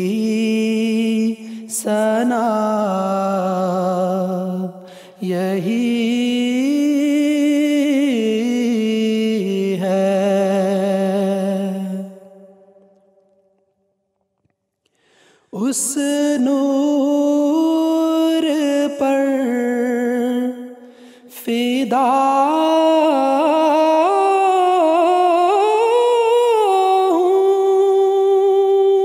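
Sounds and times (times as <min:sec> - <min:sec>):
man singing unaccompanied: 0:00.0 - 0:12.4, 0:15.5 - 0:29.0.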